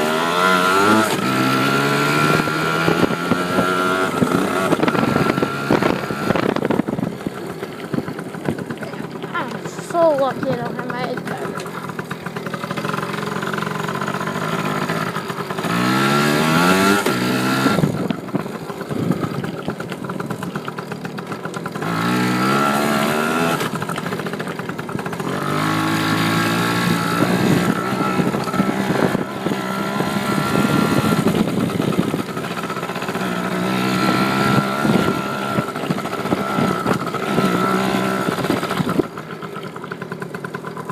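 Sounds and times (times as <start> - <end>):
dirt bike engine accelerating: 0.0 - 40.9.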